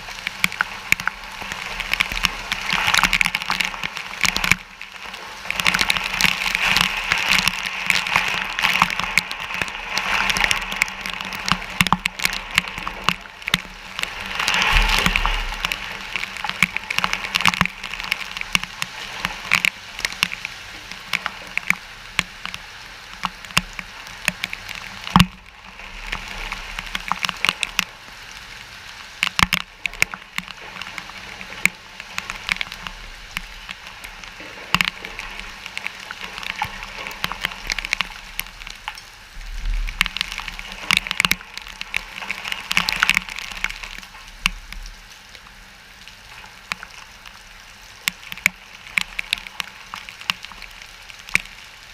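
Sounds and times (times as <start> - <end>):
raindrops hitting near microphone: 0.0 - 51.9
steady rain: 0.0 - 51.9.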